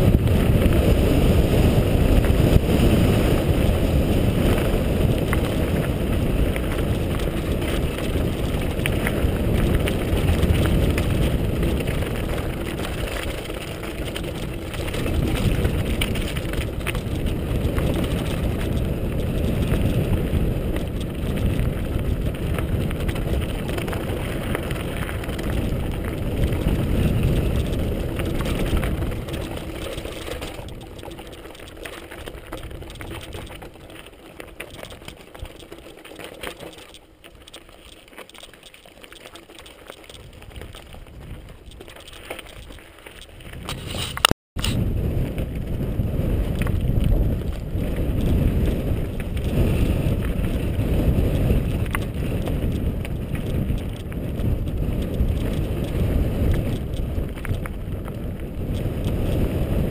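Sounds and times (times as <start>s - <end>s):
wind on microphone: 0.0s - 36.0s, 39.6s - 59.9s
tyres rolling over loose stones: 0.0s - 44.2s, 45.0s - 59.9s.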